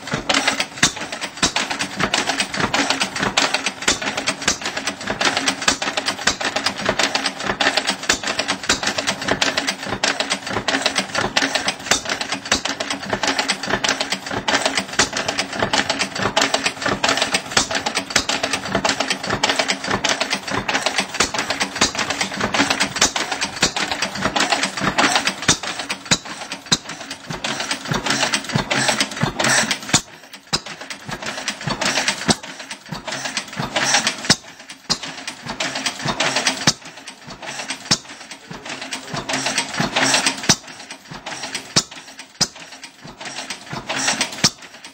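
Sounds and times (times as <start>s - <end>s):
stationary engine clattering: 0.0s - 44.9s.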